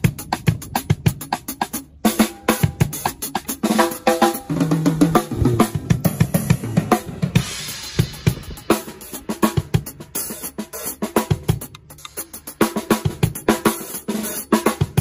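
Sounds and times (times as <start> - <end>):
snare and bass drum strokes: 0.0 - 15.0.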